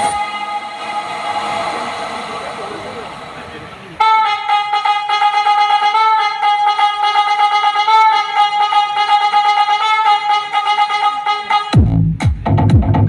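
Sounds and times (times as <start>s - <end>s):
brass-like lead instrument melody: 0.0s - 12.2s.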